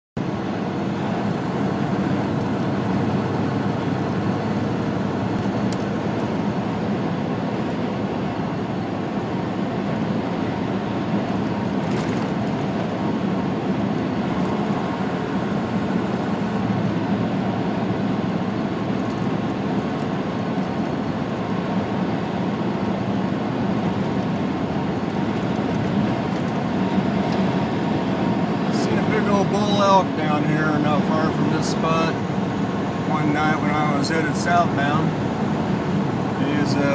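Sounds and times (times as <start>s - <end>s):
diesel engine drone: 0.2s - 36.9s
tyre and road noise: 0.2s - 36.9s.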